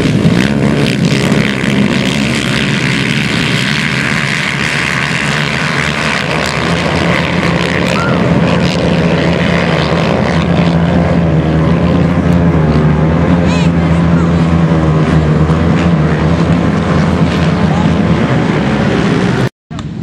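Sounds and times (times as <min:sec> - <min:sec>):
quad engines droning: 0:00.0 - 0:20.0.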